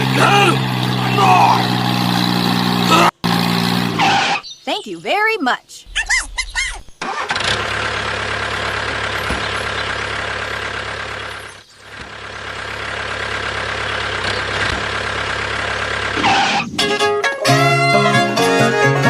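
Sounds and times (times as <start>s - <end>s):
truck engine running: 0.0s - 4.5s, 5.9s - 19.0s.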